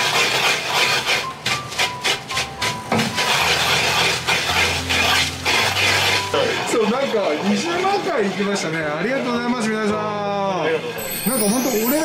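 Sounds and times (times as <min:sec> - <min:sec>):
pestle scraping in mortar: 0:00.0 - 0:09.8.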